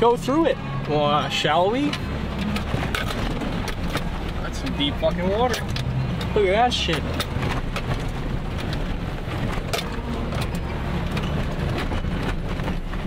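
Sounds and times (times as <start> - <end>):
truck engine running: 0.0 - 13.0
clicks and knocks over rough ground: 1.8 - 13.0.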